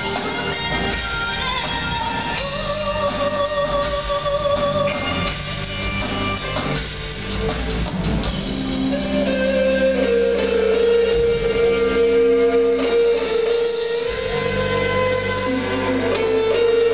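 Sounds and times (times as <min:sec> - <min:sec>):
electric guitar long notes: 0:00.0 - 0:16.9
live rock band playing: 0:00.0 - 0:16.9.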